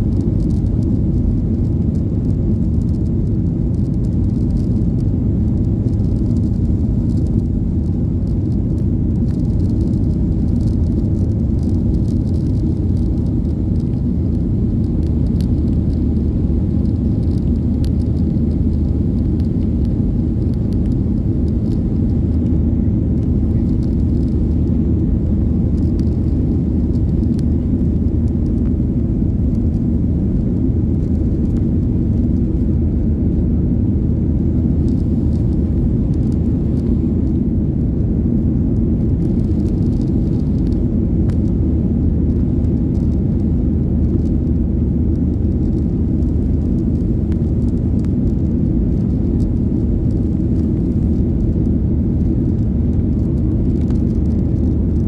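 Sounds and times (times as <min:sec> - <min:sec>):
faint low hum: 0:00.0 - 0:55.0
jet engines rumbling in cabin: 0:00.0 - 0:55.0.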